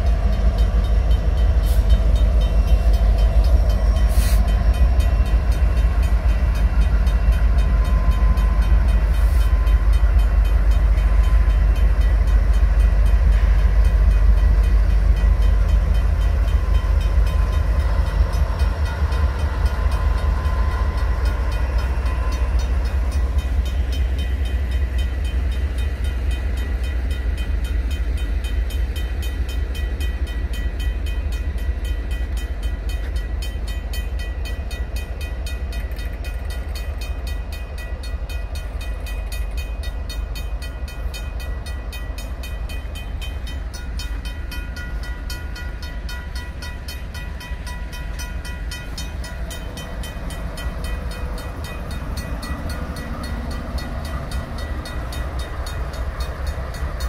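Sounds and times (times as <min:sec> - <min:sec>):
crossing bell ringing: 0:00.0 - 0:57.0
freight locomotives rumbling past: 0:00.0 - 0:57.0.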